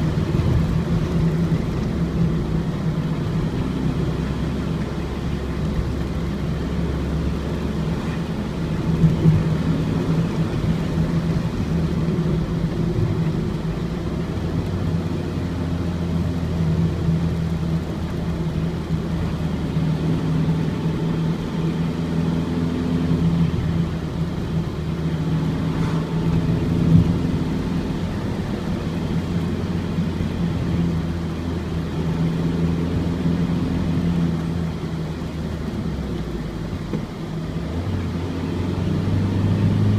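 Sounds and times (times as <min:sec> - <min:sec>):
diesel engine running: 0:00.0 - 0:39.9
road noise: 0:00.0 - 0:39.9.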